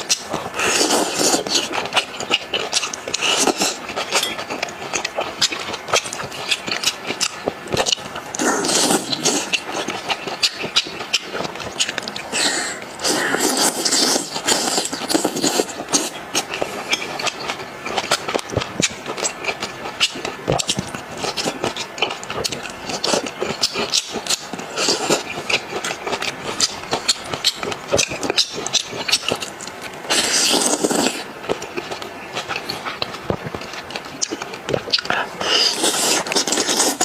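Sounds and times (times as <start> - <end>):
wet crunching and chewing: 0.0 - 37.0.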